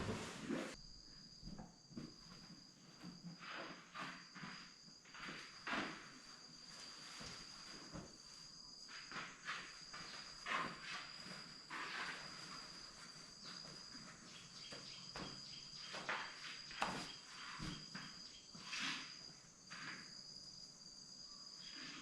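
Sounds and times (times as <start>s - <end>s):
soft steps and rustles: 0.0s - 0.8s, 1.4s - 20.0s
insects chirring: 0.5s - 22.0s.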